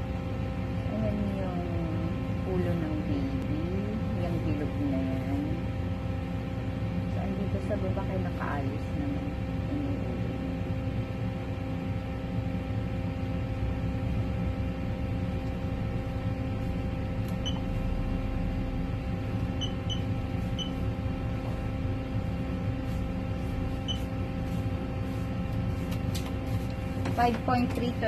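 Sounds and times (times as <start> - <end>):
electrical hum and fan noise: 0.0 - 28.0.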